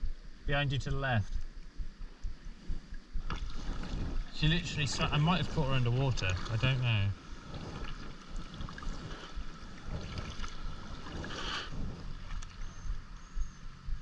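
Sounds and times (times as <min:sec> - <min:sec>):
wind rumbling on microphone: 0:00.0 - 0:14.0
water lapping and splashing: 0:01.6 - 0:13.6.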